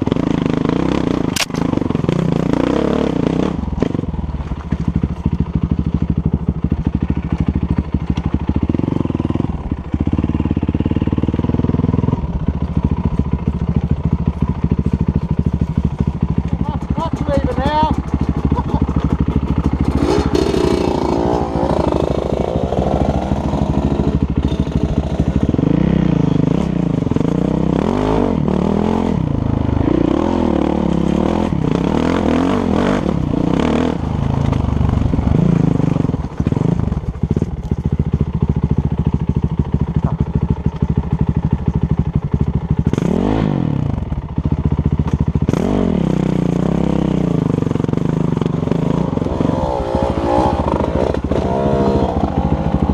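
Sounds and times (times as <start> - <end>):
dirt bike engine revving: 0.0 - 4.3, 4.9 - 37.5, 42.8 - 44.2, 44.8 - 52.9
clatter: 0.0 - 27.6, 30.7 - 43.2, 43.8 - 49.5.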